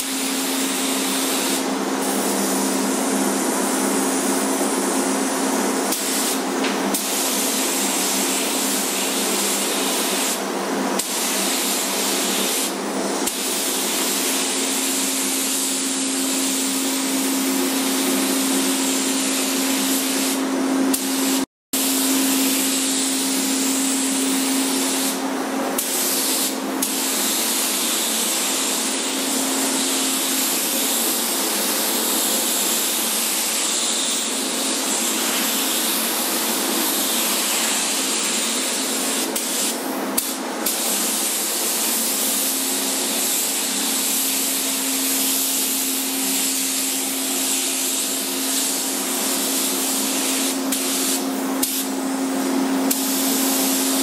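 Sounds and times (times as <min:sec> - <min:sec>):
paint spray gun hissing: 0:00.0 - 0:10.4, 0:11.0 - 0:52.3, 0:52.9 - 0:54.0.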